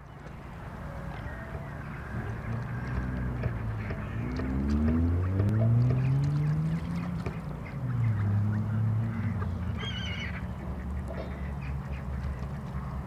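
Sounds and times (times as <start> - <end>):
waterfowl calling: 1.0 - 13.0.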